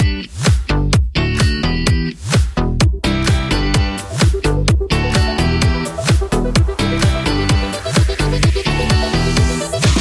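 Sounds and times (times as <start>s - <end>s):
electronic dance music: 0.0s - 10.0s
steady kick drum: 0.0s - 10.0s.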